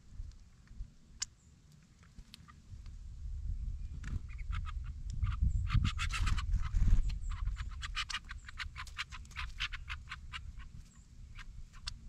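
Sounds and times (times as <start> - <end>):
wind rumble on microphone: 0.0 - 1.1, 2.5 - 12.0
small birds chip calls: 1.1 - 3.0, 3.8 - 12.0.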